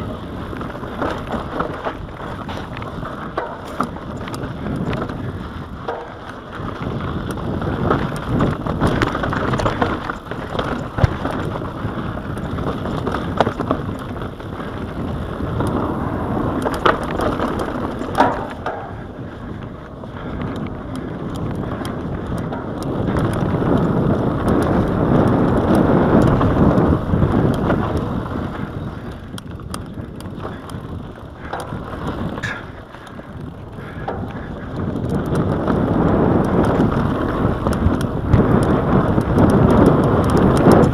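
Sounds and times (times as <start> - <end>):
bike rattling and knocking: 0.0 - 40.9
tyres crunching over dirt and rock: 0.0 - 40.9
wind rushing over microphone: 0.0 - 40.9.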